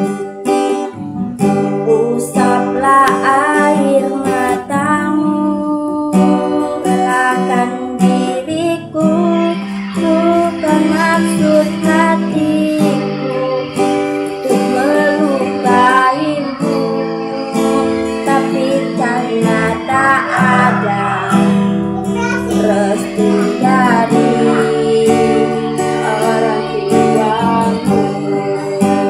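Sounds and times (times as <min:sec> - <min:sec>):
person singing: 0:00.0 - 0:29.0
strummed acoustic guitar: 0:00.0 - 0:29.0.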